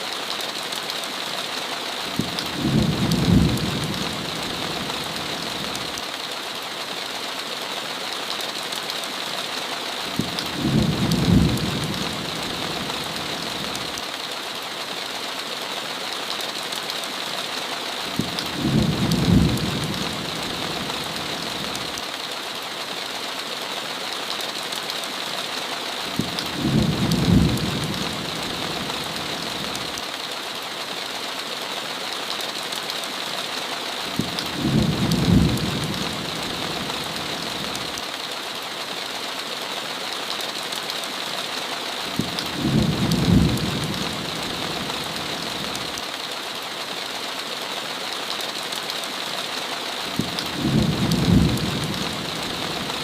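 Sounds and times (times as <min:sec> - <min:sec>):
heavy rain on a window: 0:00.0 - 0:53.0.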